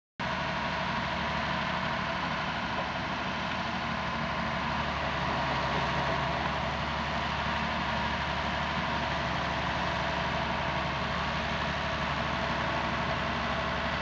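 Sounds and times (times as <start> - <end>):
diesel engine running at low revs: 0.2 - 14.0.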